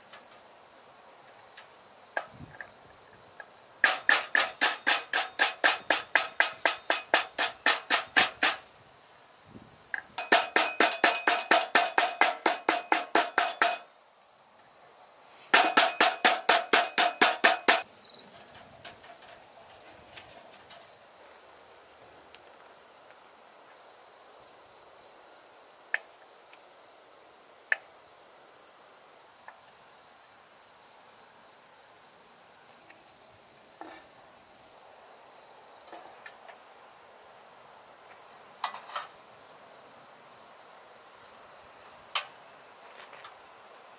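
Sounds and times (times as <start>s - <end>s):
crickets chirring: 0.0s - 43.9s.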